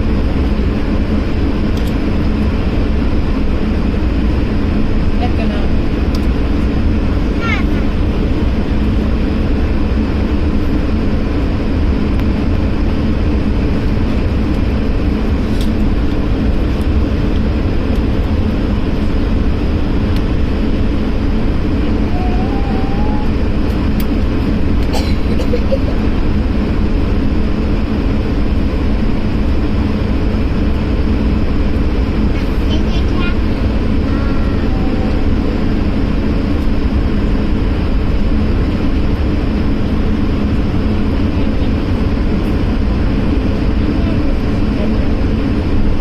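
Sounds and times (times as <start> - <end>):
airliner cabin drone: 0.0 - 46.0
jet engine hum: 0.0 - 46.0.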